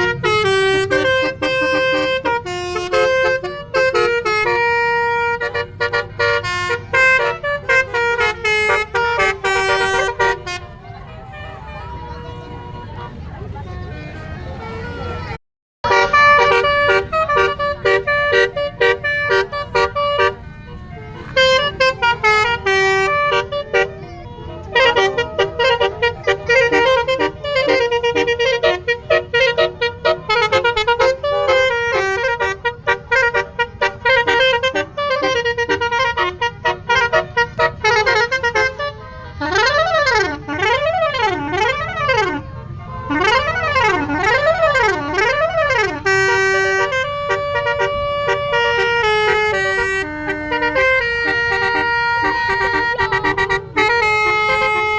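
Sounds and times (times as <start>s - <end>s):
multi-tone air horn melody: 0.0s - 54.9s.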